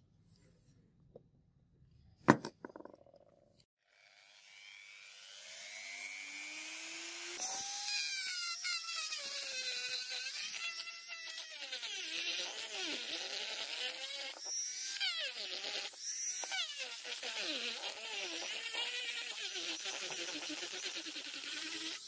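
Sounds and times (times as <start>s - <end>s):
rotary tool grinding steel: 4.2s - 22.0s.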